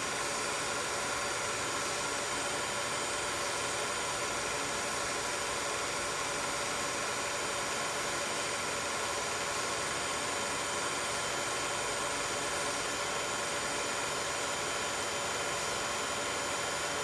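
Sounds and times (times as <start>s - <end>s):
film projector fan and motor hiss: 0.0s - 17.0s.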